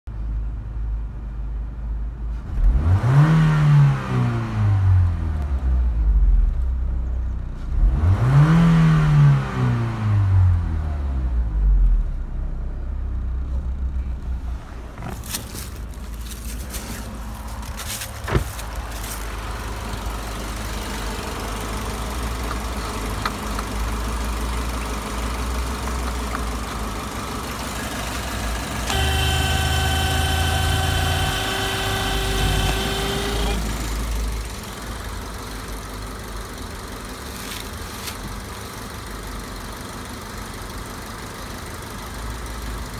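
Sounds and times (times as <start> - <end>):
car engine idling and revving: 0.1 - 42.9.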